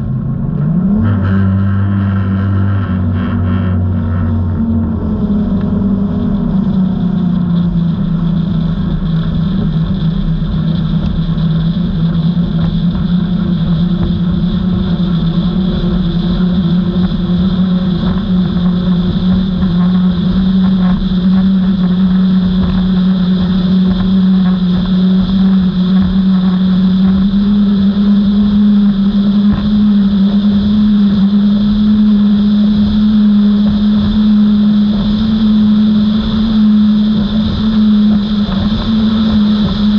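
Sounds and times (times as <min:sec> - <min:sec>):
outboard motors running hard: 0:00.0 - 0:39.9.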